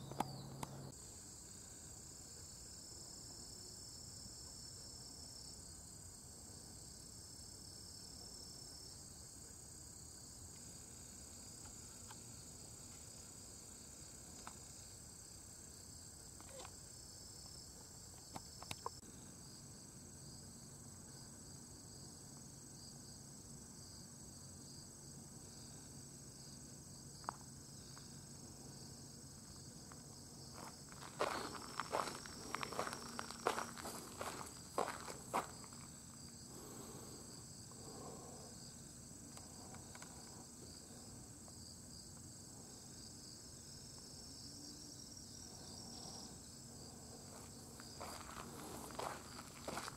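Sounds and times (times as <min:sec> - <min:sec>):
crickets chirring: 0:00.0 - 0:49.9.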